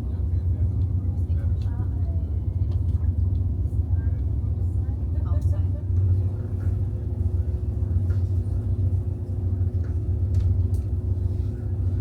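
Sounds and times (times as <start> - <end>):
constant hum: 0.0 - 12.0.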